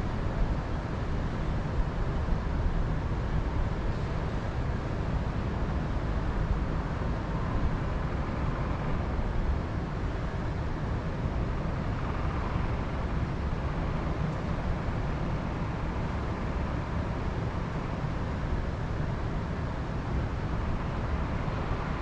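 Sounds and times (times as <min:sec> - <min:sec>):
wind rumble and hiss: 0:00.0 - 0:22.0.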